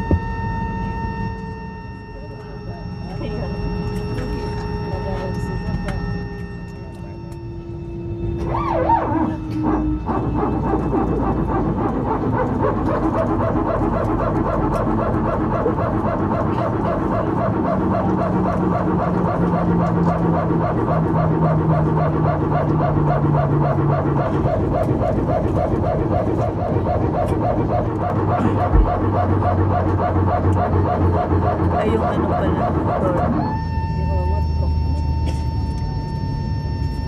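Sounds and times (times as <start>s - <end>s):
barking hydraulic pump drone: 0.0s - 37.0s
low hum sliding down in pitch: 0.0s - 37.0s.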